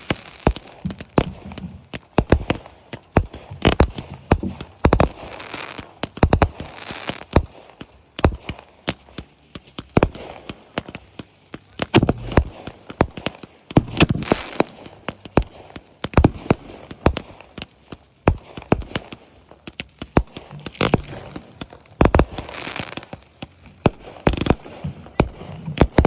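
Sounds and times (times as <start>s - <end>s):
fireworks bangs: 0.0s - 26.0s
fireworks crackling hiss: 0.0s - 26.0s.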